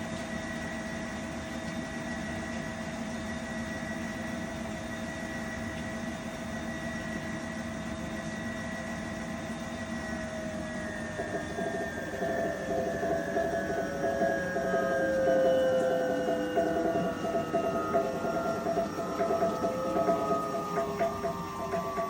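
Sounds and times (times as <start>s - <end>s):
warbling whine: 0.0s - 22.0s
washing machine whine falling: 0.0s - 22.0s.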